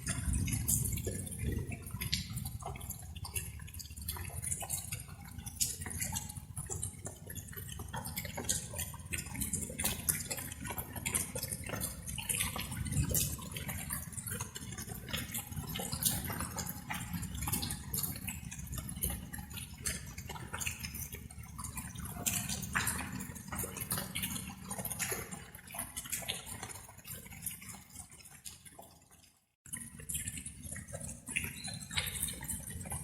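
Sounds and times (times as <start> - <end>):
raindrops pattering and dripping: 0.0 - 33.0.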